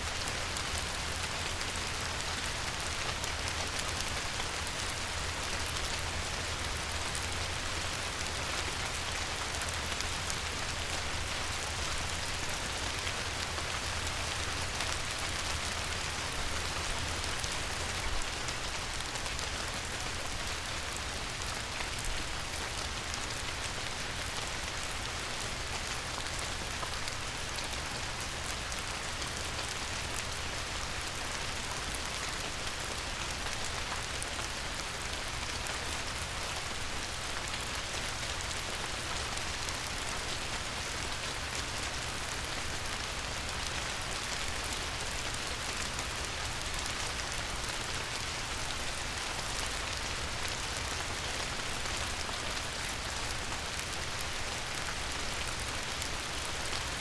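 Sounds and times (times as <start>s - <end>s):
rain pattering on river water: 0.0s - 57.0s.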